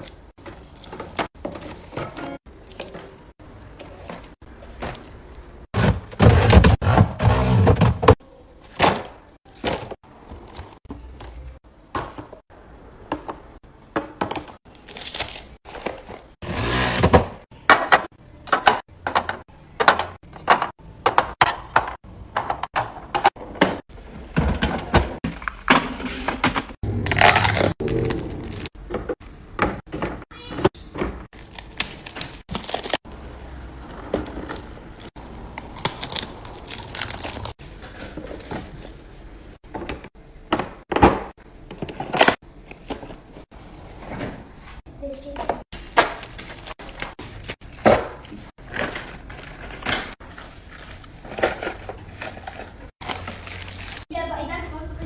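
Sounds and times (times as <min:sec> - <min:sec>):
containers knocking and scraping: 0:00.0 - 0:14.7, 0:15.4 - 0:54.1.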